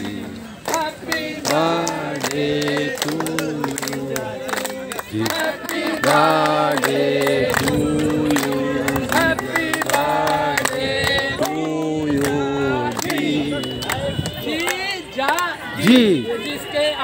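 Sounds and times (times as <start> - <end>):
group singing in unison: 0.0 - 15.4
hands clapping on a beat: 0.0 - 16.2.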